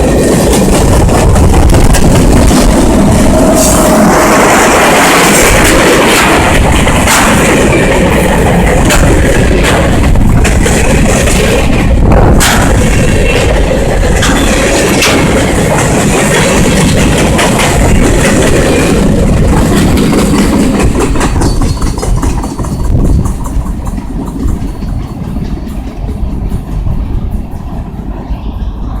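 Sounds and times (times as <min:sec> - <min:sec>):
freight train rumbling: 0:00.0 - 0:29.0
train wheels clicking on rail joints: 0:00.0 - 0:29.0.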